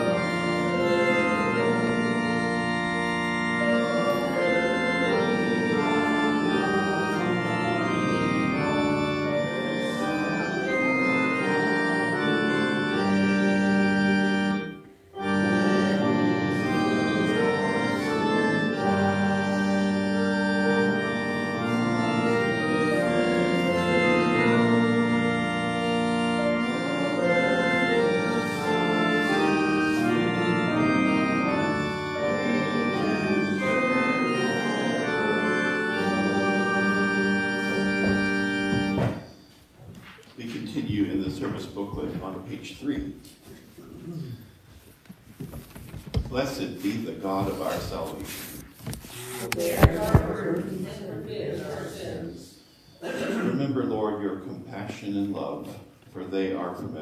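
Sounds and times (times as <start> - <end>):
church organ playing a hymn: 0.0 - 57.0.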